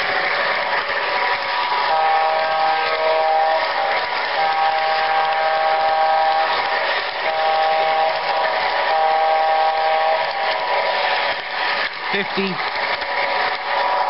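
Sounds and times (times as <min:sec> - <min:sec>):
train running on track: 0:00.0 - 0:14.0
model train electronic horn: 0:00.1 - 0:11.7.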